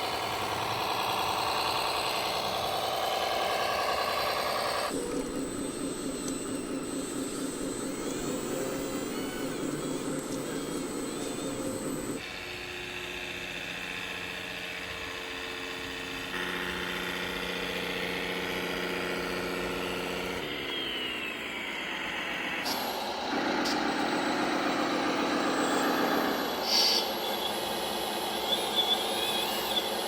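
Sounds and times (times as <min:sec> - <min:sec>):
simulated diesel engine: 0:00.0 - 0:12.4, 0:13.5 - 0:30.0.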